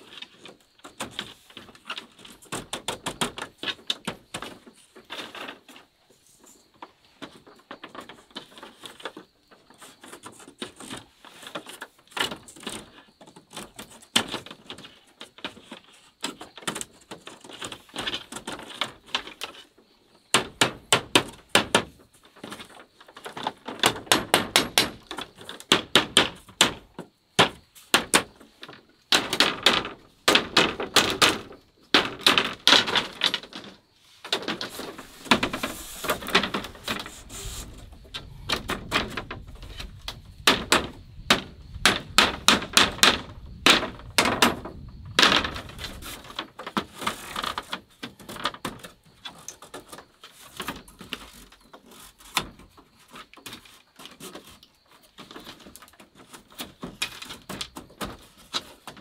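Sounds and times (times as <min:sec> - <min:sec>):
bamboo strips clacking: 0:00.0 - 0:59.0.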